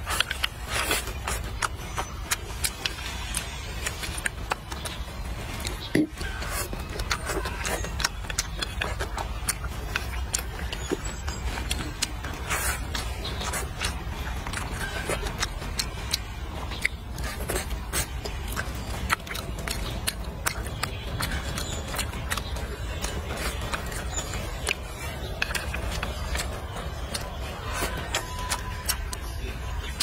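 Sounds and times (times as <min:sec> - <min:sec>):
wet mouth clicks: 0:00.0 - 0:29.3
chewing: 0:00.0 - 0:30.0.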